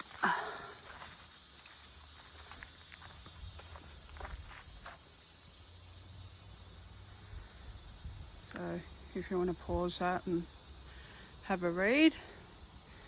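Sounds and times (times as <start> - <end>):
cicadas chorus: 0.0 - 13.0.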